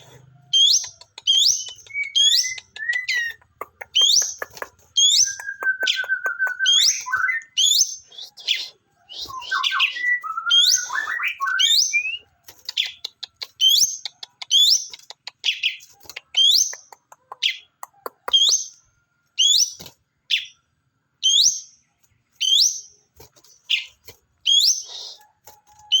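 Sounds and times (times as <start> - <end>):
songbird chirping: 0.0 - 23.0.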